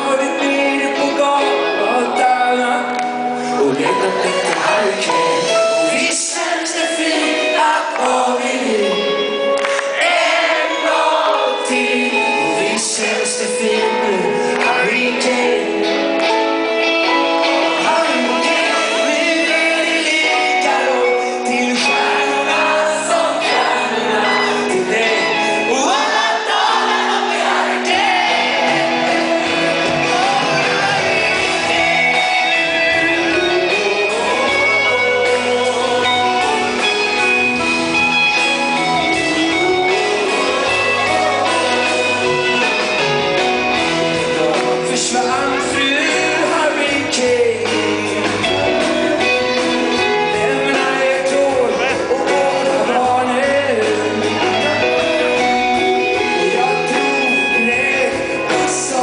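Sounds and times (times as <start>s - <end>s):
electric guitar: 0.0s - 59.0s
live rock band playing: 0.0s - 59.0s
man singing: 0.0s - 59.0s.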